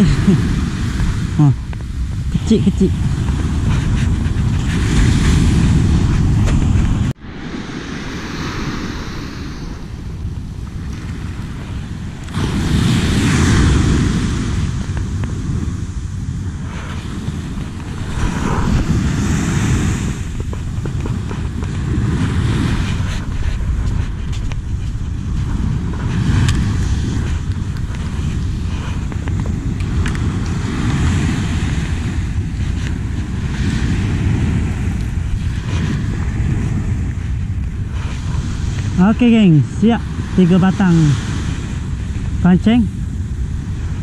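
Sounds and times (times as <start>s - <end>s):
waves breaking on shore: 0.0s - 44.0s
wind buffeting microphone: 0.0s - 44.0s.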